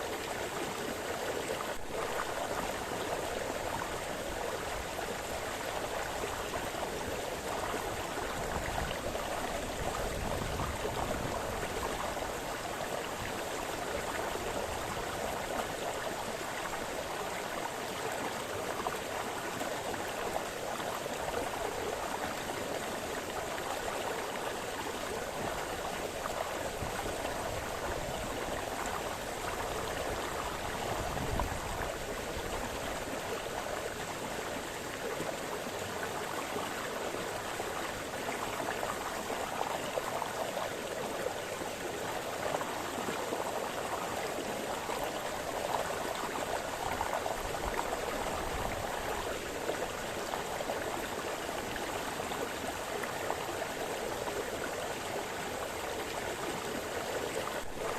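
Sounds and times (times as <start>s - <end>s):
brook babbling over stones: 0.0s - 57.9s.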